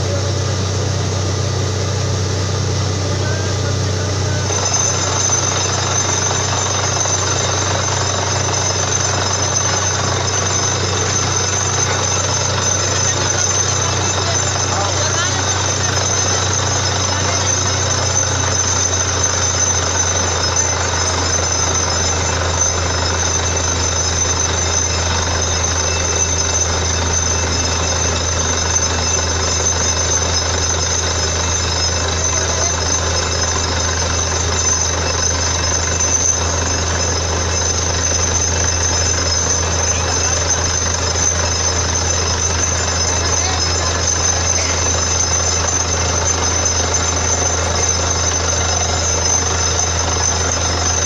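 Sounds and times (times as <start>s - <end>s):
drilling rig engine drone: 0.0s - 51.0s
steady high whine: 0.0s - 51.0s.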